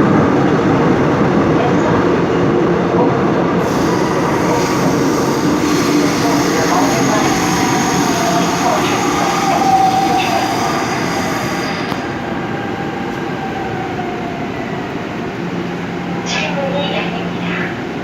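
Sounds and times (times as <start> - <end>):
subway train running on track: 0.0 - 18.0.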